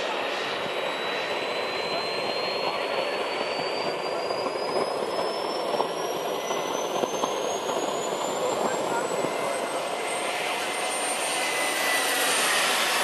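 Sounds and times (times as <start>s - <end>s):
jet rushing with high whine: 0.0s - 13.0s.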